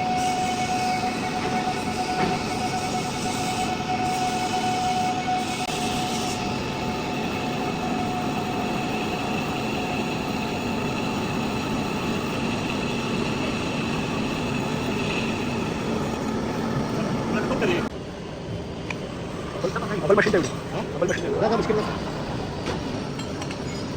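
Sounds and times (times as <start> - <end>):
metal lathe running: 0.0 - 17.9, 19.1 - 23.9.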